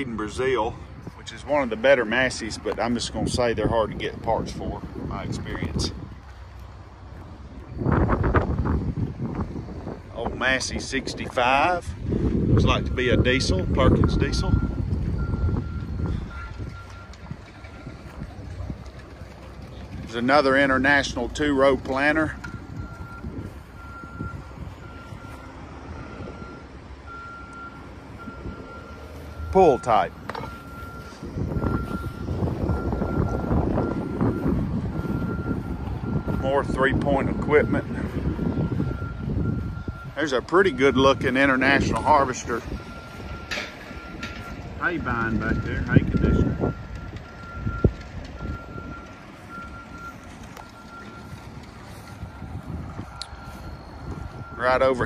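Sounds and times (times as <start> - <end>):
low wind rumble: 0.0 - 55.0
vehicle backup alarm beeping: 0.0 - 55.0.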